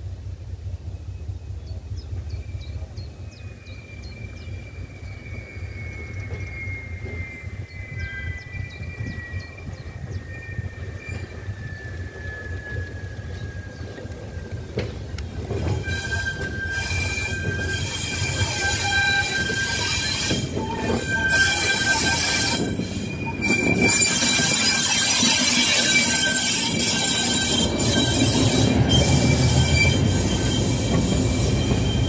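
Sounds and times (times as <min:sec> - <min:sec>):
train rumble: 0:00.0 - 0:32.0
train wheels squealing: 0:02.1 - 0:32.0.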